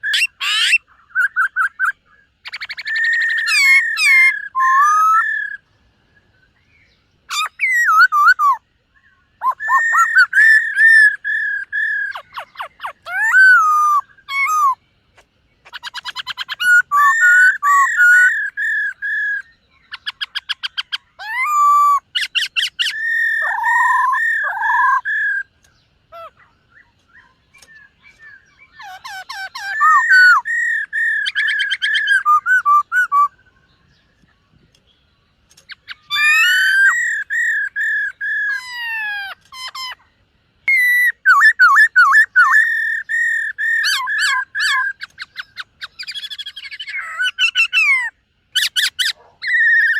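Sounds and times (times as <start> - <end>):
bird singing whistled phrases: 0.0 - 5.7, 6.6 - 14.8, 15.6 - 34.1, 35.5 - 40.0, 40.6 - 49.9.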